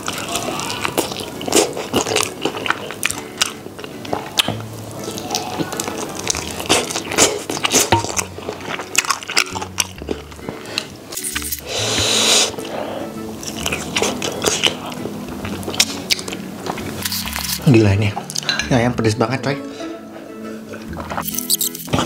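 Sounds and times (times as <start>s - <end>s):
wet chewing: 0.0s - 18.5s, 20.7s - 22.0s
background music: 0.0s - 22.0s.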